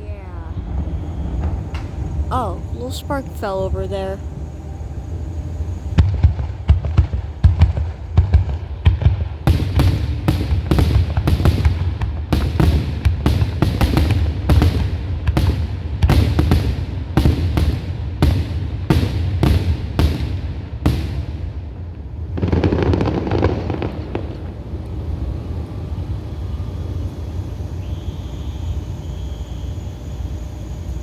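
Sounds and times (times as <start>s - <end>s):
fireworks bangs: 0.0s - 29.8s
steady low rumble: 0.0s - 31.0s.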